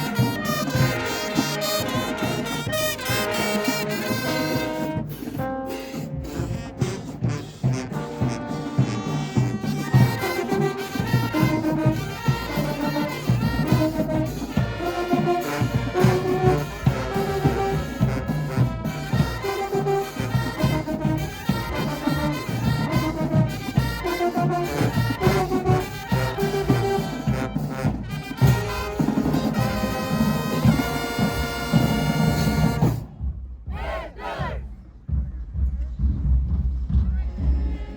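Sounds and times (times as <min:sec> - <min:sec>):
brass horns playing melody: 0:00.0 - 0:33.2
marching drum beat: 0:00.0 - 0:37.9.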